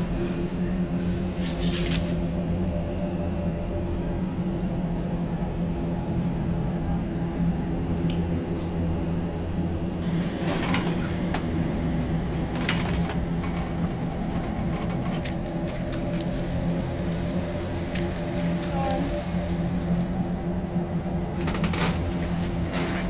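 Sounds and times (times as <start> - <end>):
low hum of fixed tones: 0.0 - 23.0.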